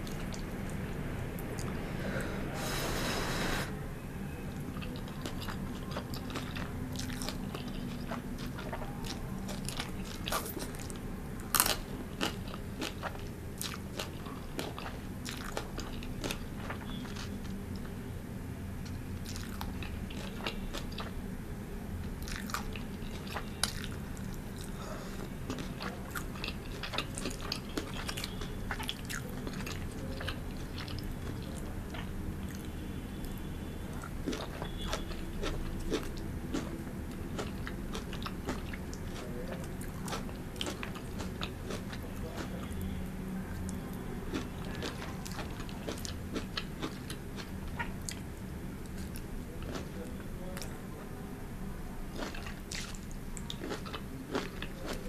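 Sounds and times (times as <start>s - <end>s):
crunchy chewing: 4.5s - 18.0s, 18.8s - 21.2s, 22.0s - 50.9s, 52.0s - 55.0s.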